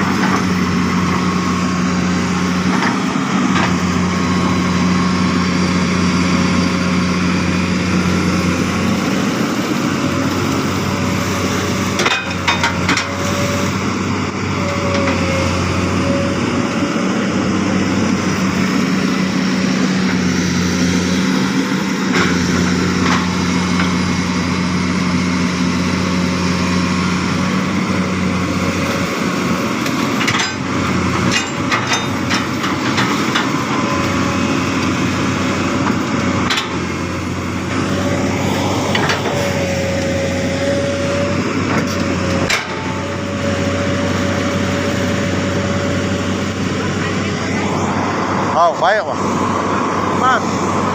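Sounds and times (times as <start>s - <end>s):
heavy machine engine under load: 0.0s - 50.9s.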